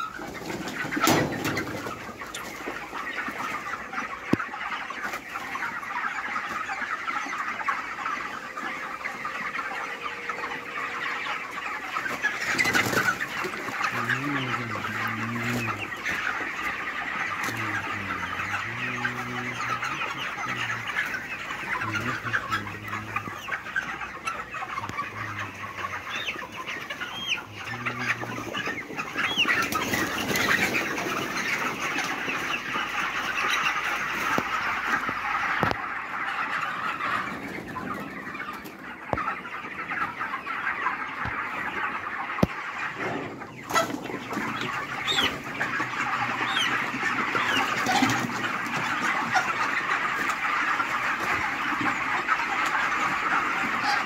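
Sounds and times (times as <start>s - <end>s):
chickens cheeping and clucking: 0.0s - 54.0s.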